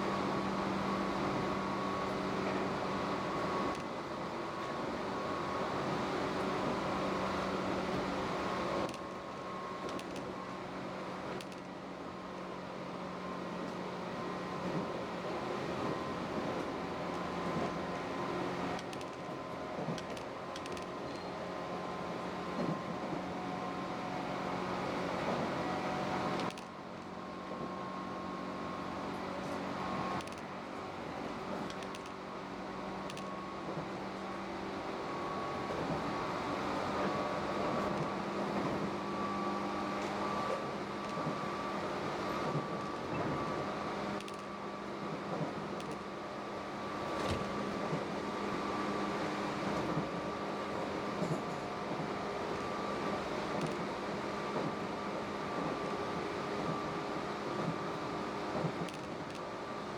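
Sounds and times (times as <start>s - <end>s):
electric train running hum: 0.0s - 59.9s.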